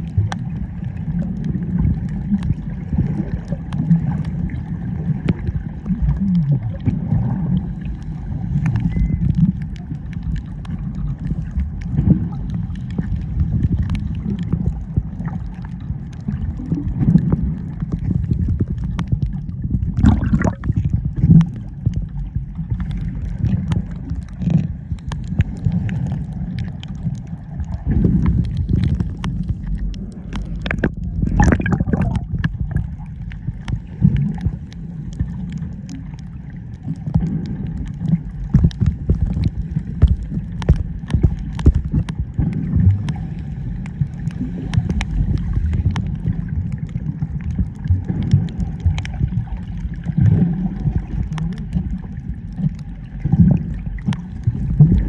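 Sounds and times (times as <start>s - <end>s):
small clicks and pops: 0.0s - 55.0s
water gurgling and sloshing: 0.0s - 55.0s.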